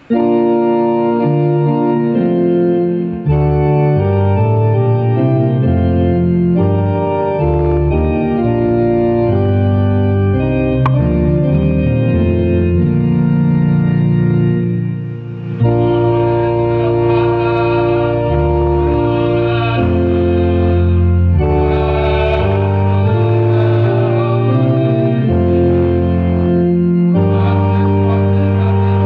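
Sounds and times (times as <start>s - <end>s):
organ playing held chords: 0.0s - 29.0s.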